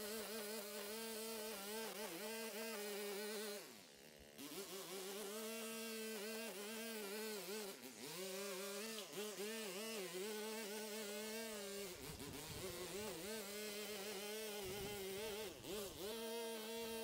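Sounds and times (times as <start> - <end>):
string trimmer buzzing: 0.0 - 17.0.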